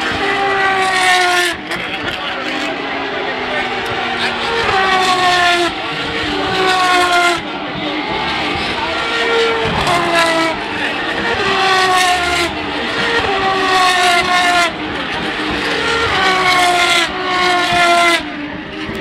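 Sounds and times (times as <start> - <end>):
race cars accelerating past: 0.0 - 19.0.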